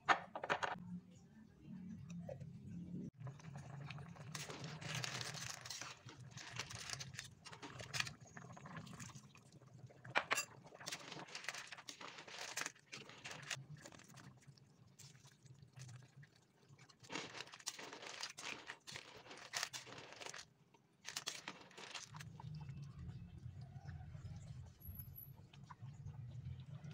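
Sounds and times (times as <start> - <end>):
thick sauce bubbling and popping: 3.1 - 26.9.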